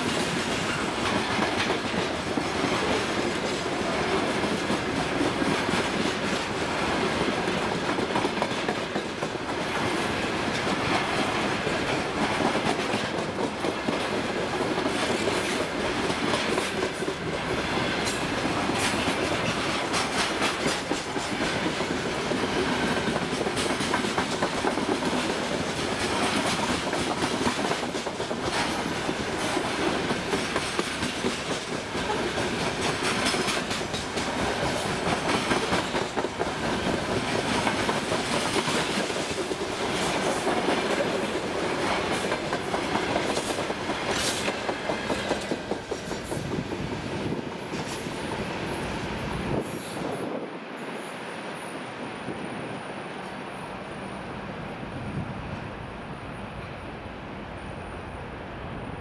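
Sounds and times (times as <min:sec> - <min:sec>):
wheels clickety-clack over rail joints: 0:00.0 - 0:50.4
train wheels rumbling on rails: 0:00.0 - 0:59.0.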